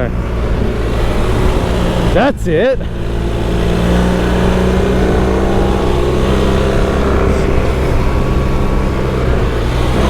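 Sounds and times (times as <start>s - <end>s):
motorcycle engine running: 0.0s - 10.0s
steady rushing noise: 0.0s - 10.0s.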